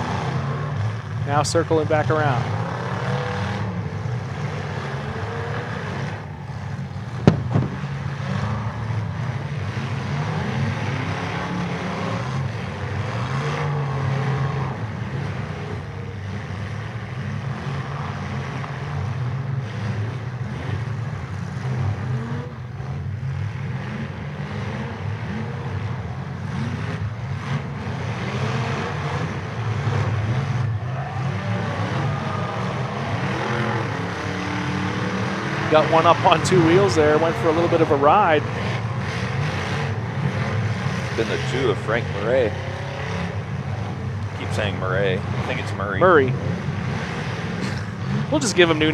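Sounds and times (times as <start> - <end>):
car engines revving: 0.0 - 48.9
cars hitting each other: 0.0 - 48.9.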